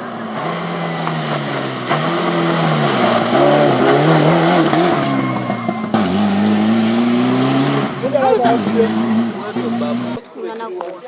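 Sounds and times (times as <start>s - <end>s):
rally car engine revving: 0.0s - 10.3s.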